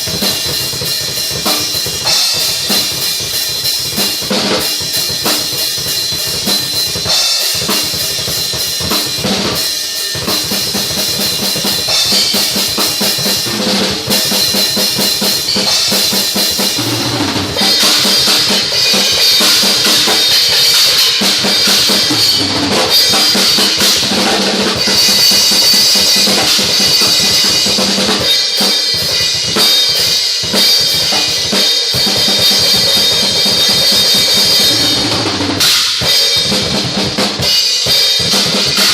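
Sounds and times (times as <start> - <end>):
drum kit played hard: 0.0 - 38.9.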